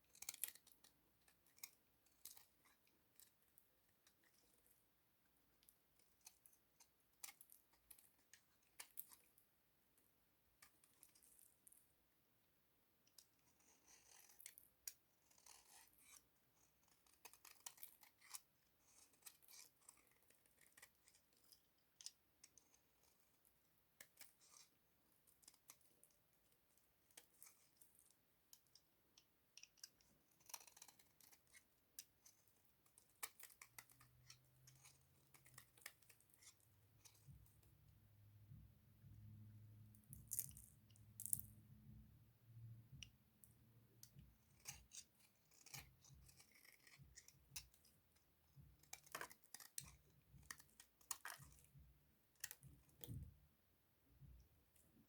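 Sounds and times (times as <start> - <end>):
blade cutting soap: 0.0 - 4.8, 5.6 - 9.4, 13.0 - 42.0, 42.6 - 53.4.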